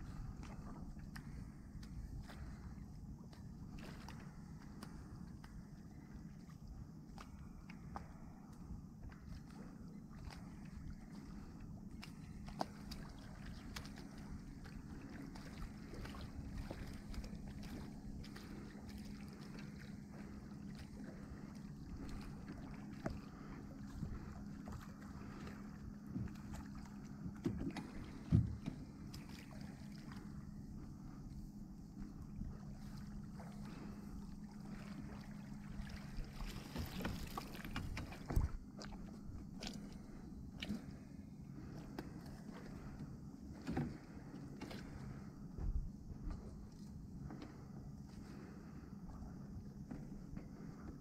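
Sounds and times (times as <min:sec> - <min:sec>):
boat engine idling: 0:00.0 - 0:51.0
steady low hum: 0:00.0 - 0:51.0.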